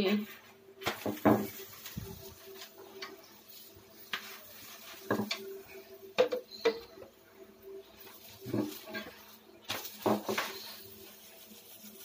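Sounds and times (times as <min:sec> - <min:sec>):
rolling pin on stone countertop: 0:00.8 - 0:07.0, 0:08.0 - 0:12.0.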